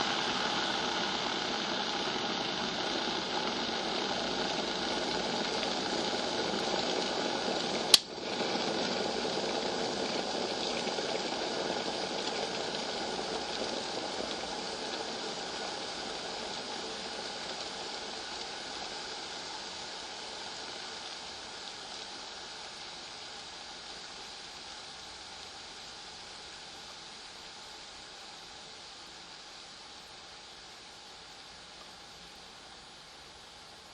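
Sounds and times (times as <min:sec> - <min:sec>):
kettle boiling: 0:00.0 - 0:33.9.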